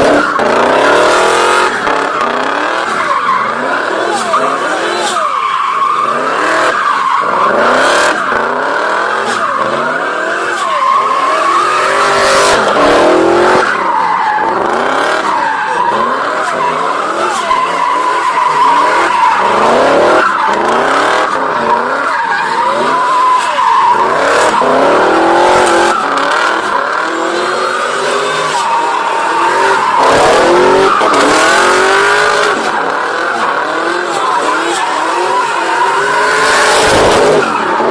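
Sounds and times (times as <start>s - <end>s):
car engine revving: 0.0s - 37.9s
tire squeal: 0.0s - 37.9s.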